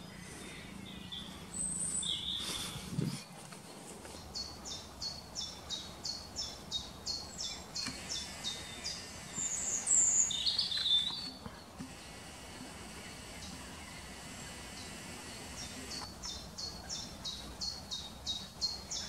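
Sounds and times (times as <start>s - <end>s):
flurry of bird chirps: 0.0s - 19.0s.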